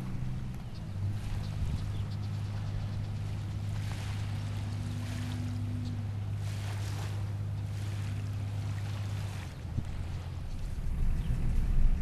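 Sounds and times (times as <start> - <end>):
low engine hum: 0.0 - 12.0
wind on microphone: 0.0 - 12.0.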